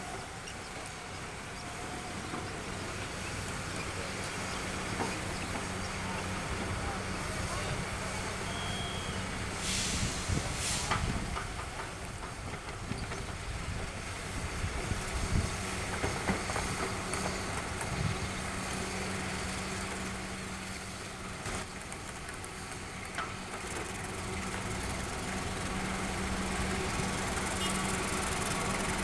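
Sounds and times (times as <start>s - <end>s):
locomotive engine hum: 0.0s - 29.0s
train rumble: 0.0s - 29.0s.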